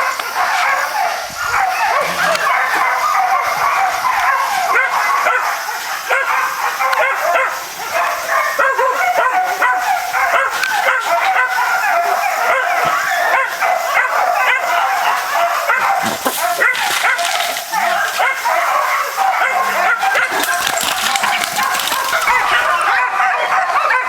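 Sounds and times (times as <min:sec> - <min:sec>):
puppies yelping: 0:00.0 - 0:24.0
puppy barks: 0:00.0 - 0:24.0.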